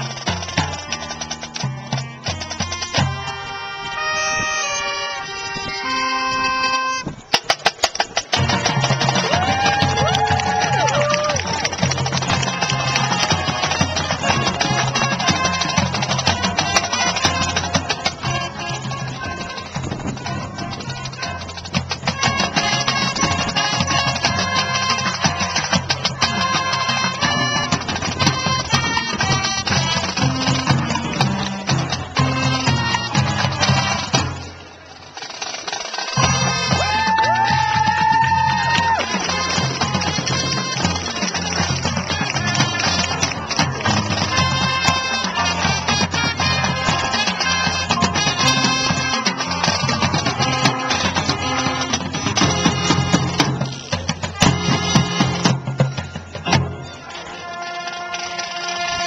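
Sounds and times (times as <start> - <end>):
marching band playing: 0.0 - 59.0
sharp percussion clicks: 6.4 - 36.8, 37.6 - 57.2
heavy low brass: 8.3 - 34.5, 36.2 - 59.0.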